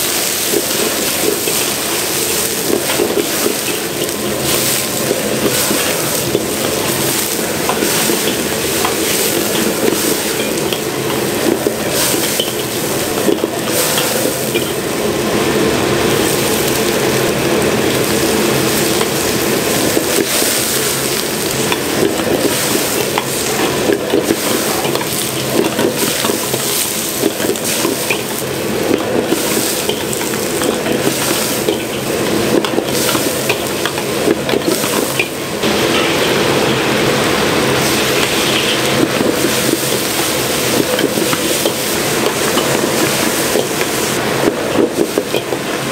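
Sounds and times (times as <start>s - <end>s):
continuous rushing noise: 0.0s - 45.9s
food sizzling in a wok: 0.0s - 45.9s.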